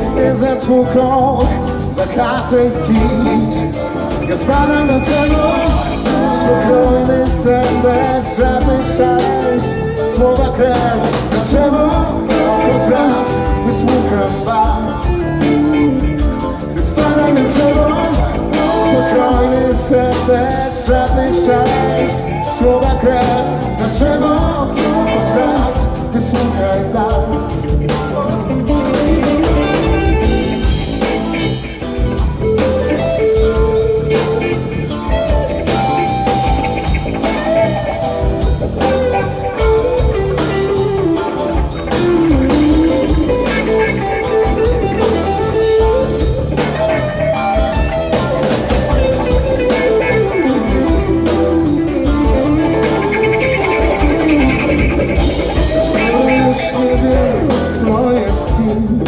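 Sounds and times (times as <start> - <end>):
drum kit: 0.0 - 59.0
electric bass: 0.0 - 59.0
electric guitar lead line: 0.0 - 59.0.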